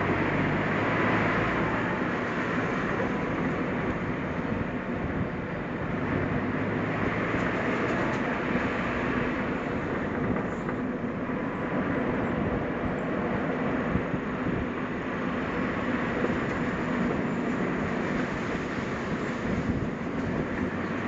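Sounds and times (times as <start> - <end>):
car engine drone: 0.0 - 21.0
tyre and road noise: 0.0 - 21.0.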